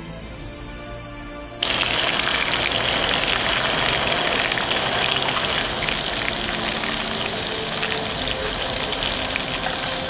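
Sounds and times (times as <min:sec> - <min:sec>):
fish sizzling in hot oil: 0:01.6 - 0:10.0.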